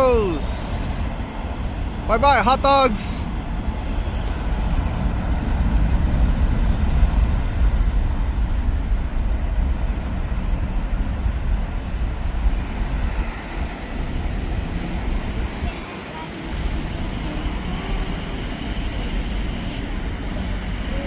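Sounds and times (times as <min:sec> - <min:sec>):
jet engines rumbling on takeoff: 0:00.0 - 0:21.0.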